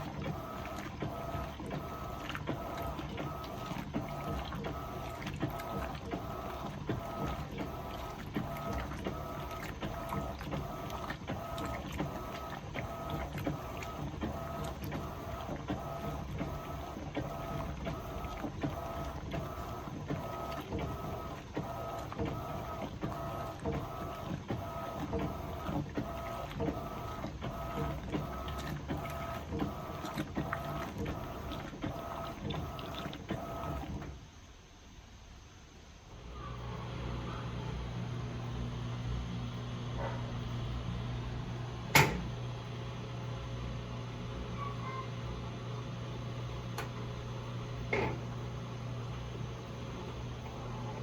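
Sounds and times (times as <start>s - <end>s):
washing machine motor hum: 0.0s - 34.6s, 35.8s - 51.0s.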